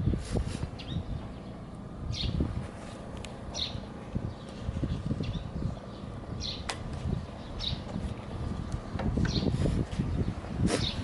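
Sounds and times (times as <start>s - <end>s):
bird chirping: 0.8s - 2.5s, 3.5s - 11.0s.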